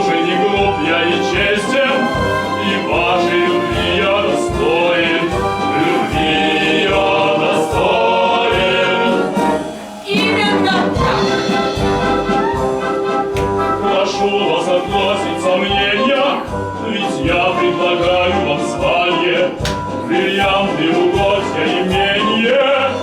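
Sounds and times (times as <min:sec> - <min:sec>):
musical theatre singing: 0:00.0 - 0:23.0.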